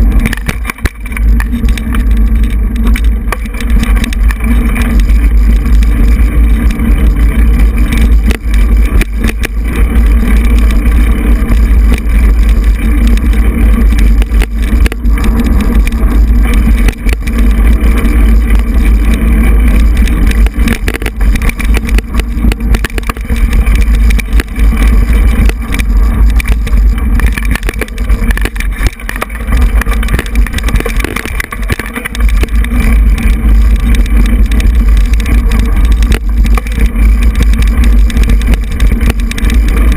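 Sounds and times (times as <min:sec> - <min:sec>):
bike knocks and rattles: 0:00.0 - 0:39.9
wind buffeting camera: 0:00.0 - 0:39.9.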